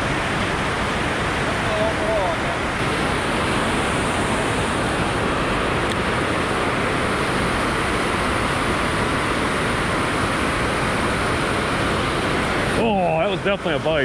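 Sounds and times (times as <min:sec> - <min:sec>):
water roaring through a dam: 0:00.0 - 0:14.0.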